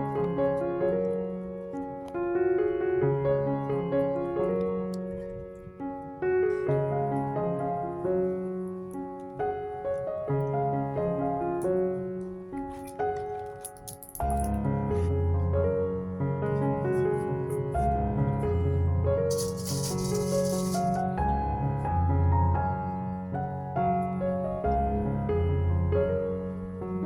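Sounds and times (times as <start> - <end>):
gentle piano melody: 0.0 - 27.0.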